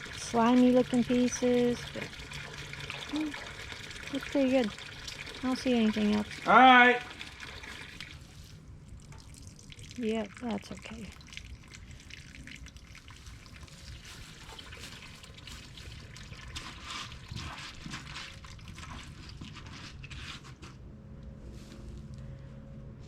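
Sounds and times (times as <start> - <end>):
water trickling and spattering: 0.0 - 20.6.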